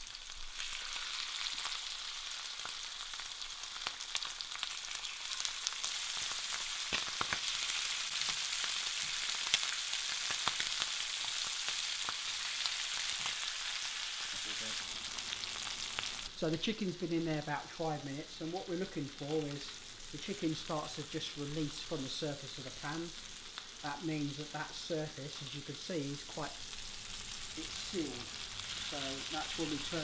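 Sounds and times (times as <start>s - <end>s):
chicken sizzling in oil: 0.0s - 30.0s.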